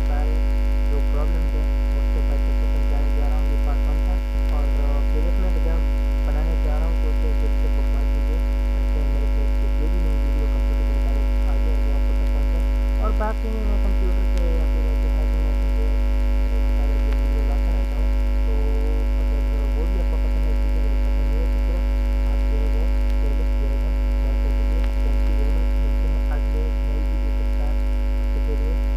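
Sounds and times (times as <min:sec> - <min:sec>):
electrical mains hum: 0:00.0 - 0:28.9.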